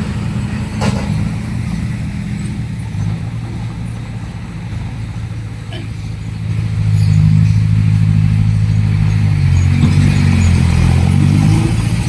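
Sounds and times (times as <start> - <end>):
heavy diesel engine revving: 0.0 - 12.0.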